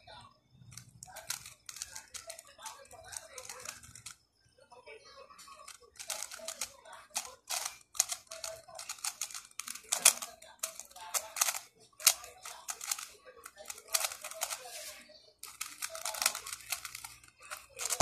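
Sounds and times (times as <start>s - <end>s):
puzzle cube plastic clicking: 0.6s - 4.2s, 5.4s - 18.0s.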